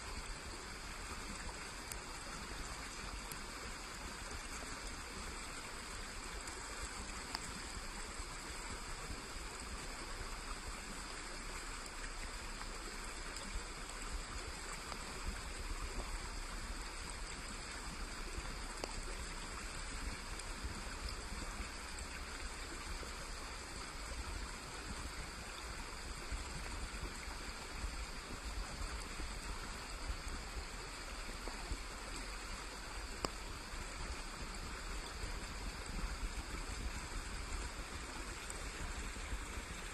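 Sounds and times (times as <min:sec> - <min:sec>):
small stream rushing: 0:00.0 - 0:39.9.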